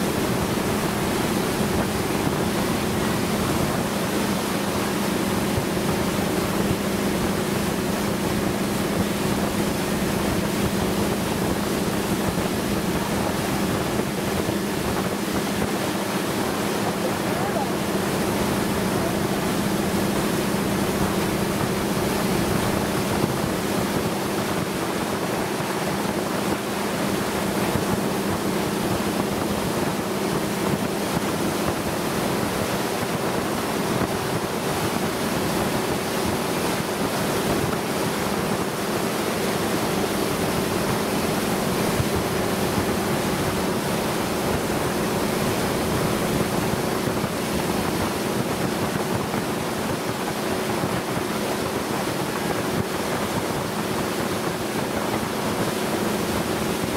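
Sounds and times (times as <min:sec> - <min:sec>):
motorboat engine humming: 0:00.0 - 0:56.9
water rushing along hull: 0:00.0 - 0:56.9
wind buffeting microphone: 0:00.0 - 0:56.9.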